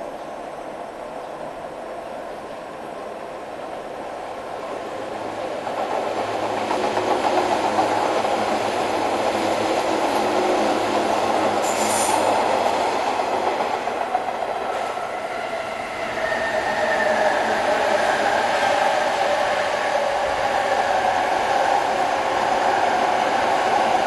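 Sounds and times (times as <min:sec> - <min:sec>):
train wheels rumbling on rails: 0:02.4 - 0:24.0.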